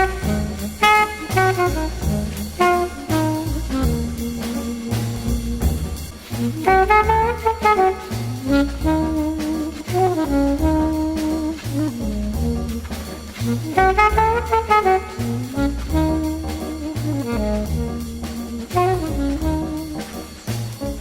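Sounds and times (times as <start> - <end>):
brass-like jazz melody: 0.0 - 21.0
rhythmic bass line: 0.0 - 21.0.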